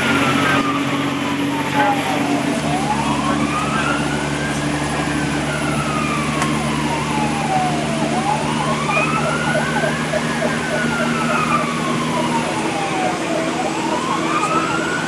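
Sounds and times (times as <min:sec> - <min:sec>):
fast warbling siren tone: 0:00.0 - 0:15.0
fire engine motor drone: 0:00.0 - 0:15.0
fire engine siren wailing: 0:00.0 - 0:15.0.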